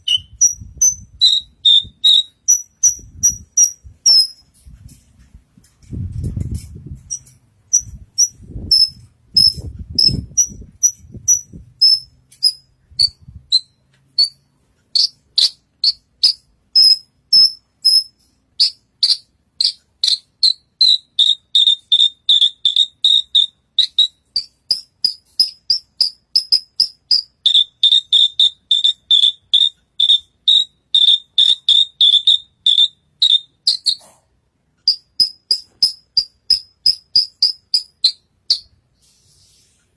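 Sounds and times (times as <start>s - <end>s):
lark chirping: 0.0s - 4.5s, 7.1s - 34.2s, 34.8s - 38.8s.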